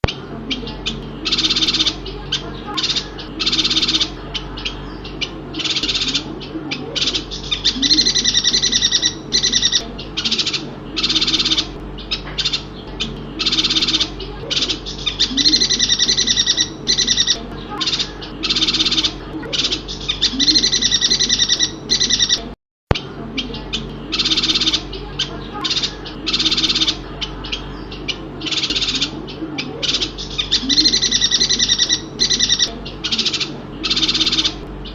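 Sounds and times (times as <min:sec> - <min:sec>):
bird twittering: 0:00.0 - 0:34.9.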